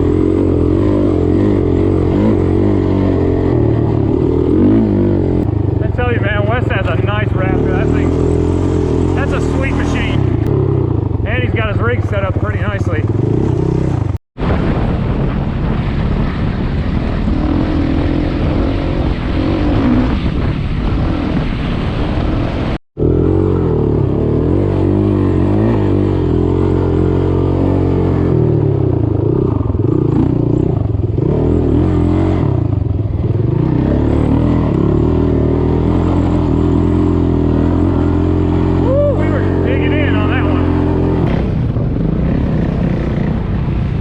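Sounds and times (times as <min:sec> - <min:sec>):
off-road vehicle engine running: 0:00.0 - 0:44.0.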